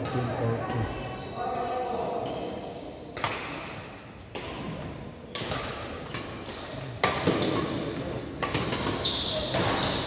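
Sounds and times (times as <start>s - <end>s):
racket hitting shuttlecock: 1.6s - 10.0s.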